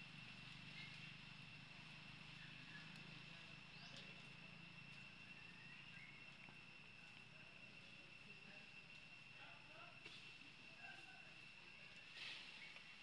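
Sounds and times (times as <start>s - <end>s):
high insect drone: 0.0s - 13.0s
faint chirps: 0.5s - 13.0s.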